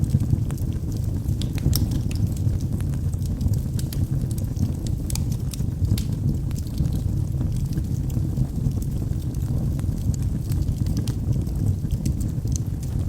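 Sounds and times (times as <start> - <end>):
fire flames rumbling: 0.0 - 13.0
logs crackling and popping: 0.0 - 13.0.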